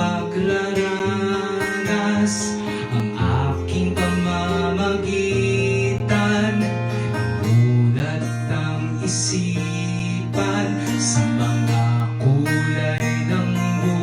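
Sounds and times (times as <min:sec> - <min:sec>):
acoustic guitar strumming chords: 0:00.0 - 0:14.0
sustained bass notes: 0:00.0 - 0:14.0.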